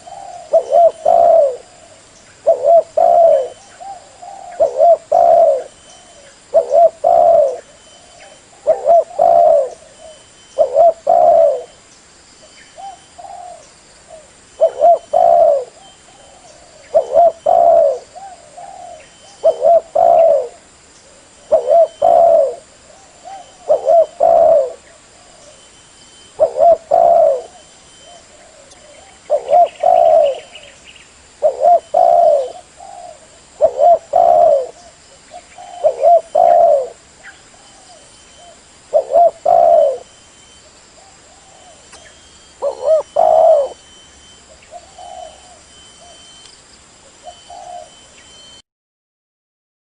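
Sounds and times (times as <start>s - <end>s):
dove cooing: 0.0s - 11.8s, 12.8s - 30.8s, 31.4s - 46.4s, 47.1s - 48.6s.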